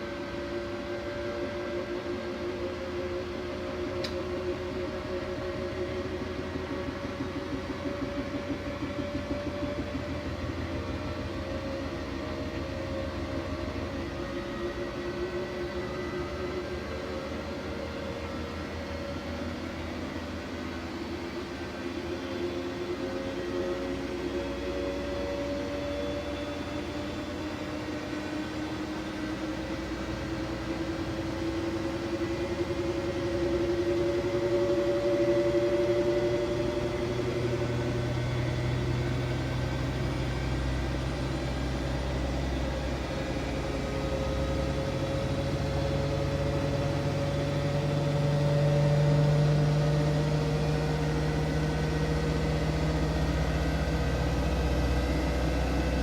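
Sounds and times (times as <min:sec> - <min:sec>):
washing machine motor whine: 0:00.0 - 0:56.0.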